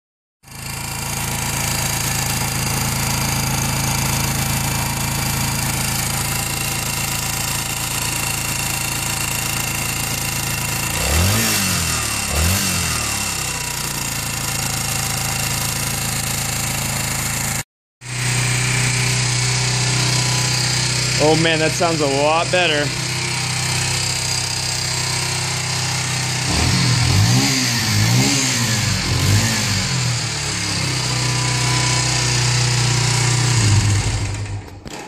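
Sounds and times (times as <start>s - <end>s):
motorcycle engine idling and revving: 0.4s - 35.0s.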